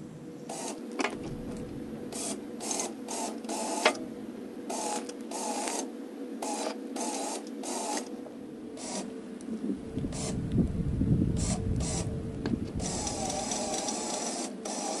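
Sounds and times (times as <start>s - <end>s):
electric winch motor hum: 0.5s - 9.2s, 9.9s - 15.0s.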